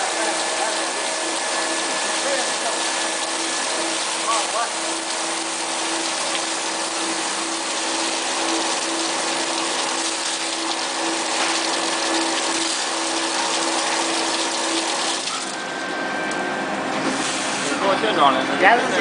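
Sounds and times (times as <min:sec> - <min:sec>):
machine hum: 0:00.0 - 0:18.8.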